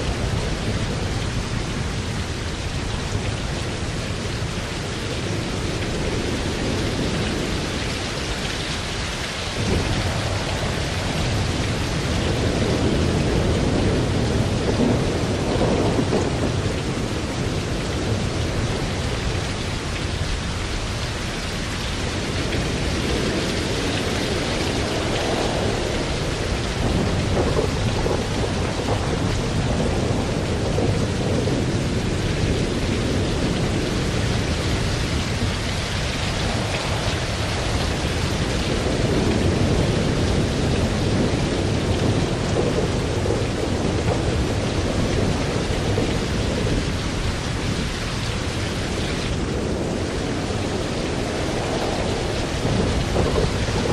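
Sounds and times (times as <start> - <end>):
heavy rain: 0.0 - 53.9
rolling thunder: 0.0 - 53.9.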